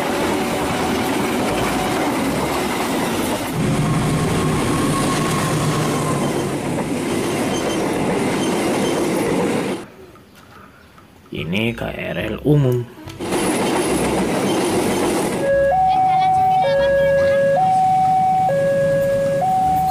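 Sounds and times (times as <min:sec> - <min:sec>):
train coaches rumbling past: 0:00.0 - 0:09.9, 0:13.0 - 0:19.9
diesel locomotive engine: 0:00.0 - 0:10.0, 0:11.8 - 0:19.9.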